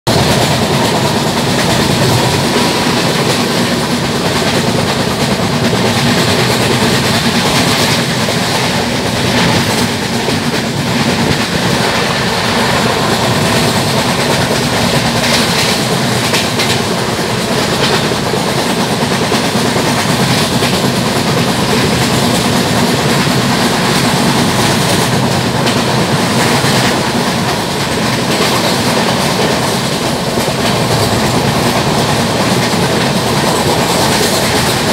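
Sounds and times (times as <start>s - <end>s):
flat wheels knocking: 0.1s - 34.9s
train wheels rumbling on rails: 0.1s - 34.9s.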